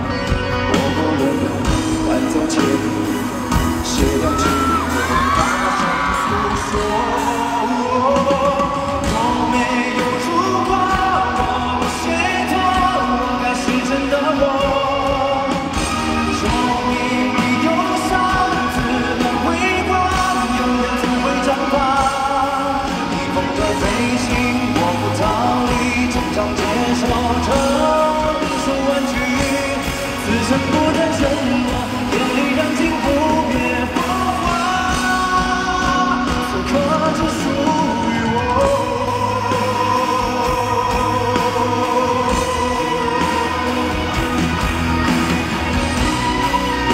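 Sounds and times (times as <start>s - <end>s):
man singing into microphone: 0.0s - 45.0s
backing band playing: 0.0s - 46.9s
steady bass line: 0.0s - 46.9s.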